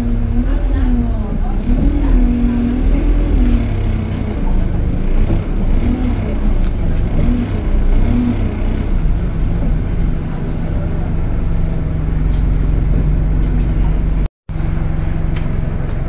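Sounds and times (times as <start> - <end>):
bus engine droning: 0.0 - 16.0.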